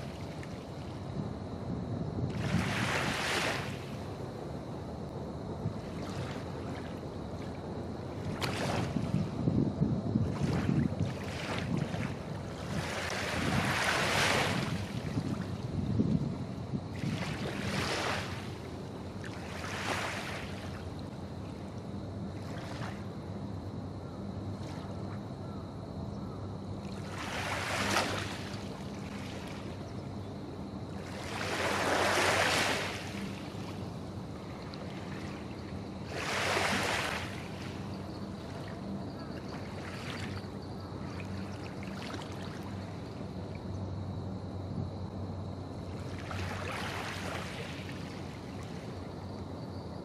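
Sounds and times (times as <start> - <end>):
small waves lapping: 0.0 - 1.1, 2.3 - 4.1, 5.6 - 9.3, 10.2 - 25.6, 26.8 - 43.9, 45.5 - 49.4.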